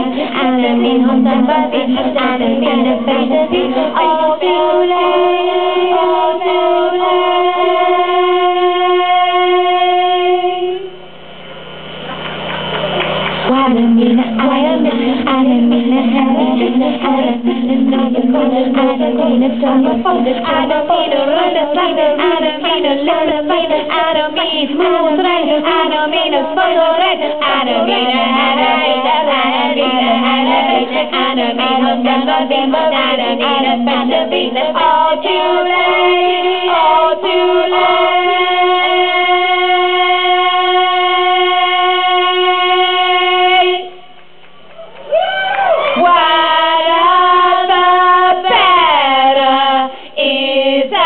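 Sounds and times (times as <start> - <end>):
female choir singing through speaker: 0.0 - 11.0, 13.4 - 44.2, 45.9 - 51.0.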